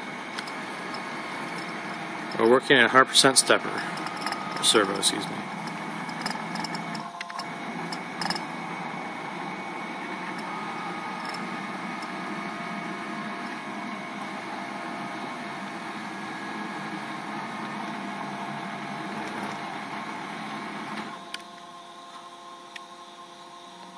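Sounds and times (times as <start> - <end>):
cnc router running: 0.0 - 23.9
faint whining tones: 0.0 - 23.9
low electrical hum: 0.0 - 23.9.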